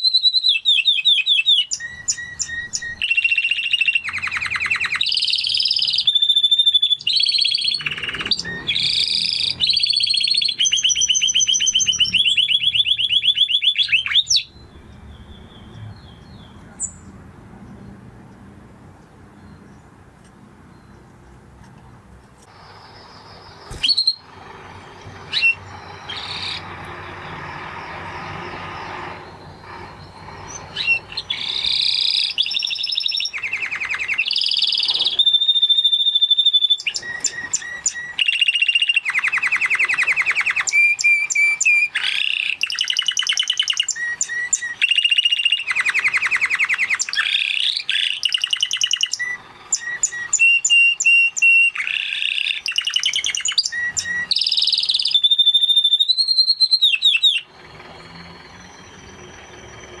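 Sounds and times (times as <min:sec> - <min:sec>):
canary singing trills and whistles: 0:00.0 - 0:17.2, 0:22.4 - 1:00.0.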